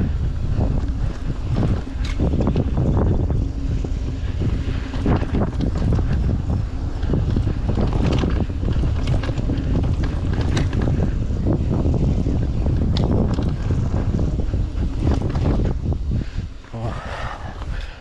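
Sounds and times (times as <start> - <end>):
bike rattling over rocks: 0.0 - 16.6
tyres rumbling on dirt trail: 0.0 - 18.0
wind buffeting microphone: 0.0 - 18.0.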